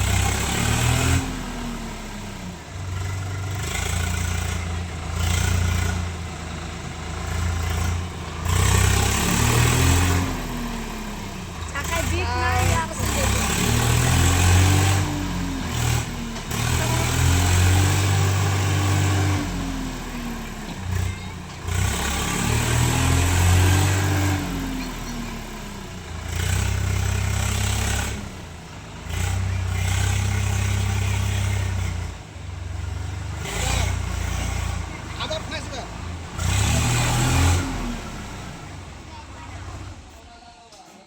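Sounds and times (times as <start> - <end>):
tractor diesel engine working hard: 0.0 - 41.0.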